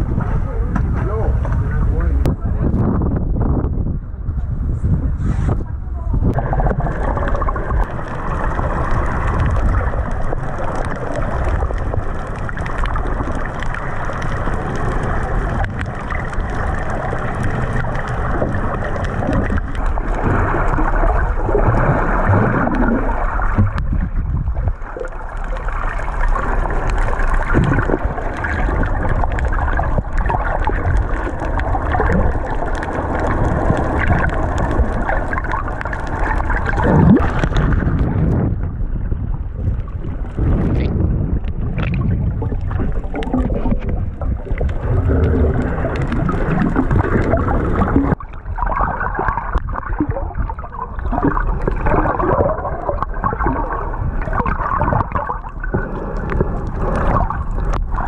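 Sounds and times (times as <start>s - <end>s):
muffled underwater rushing water: 0.0s - 58.0s
bubbling: 5.3s - 58.0s.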